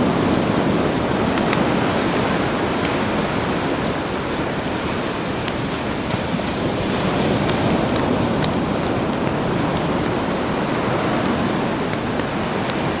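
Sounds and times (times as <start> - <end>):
campfire crackling and popping: 0.0 - 13.0
sea surf washing: 0.0 - 13.0.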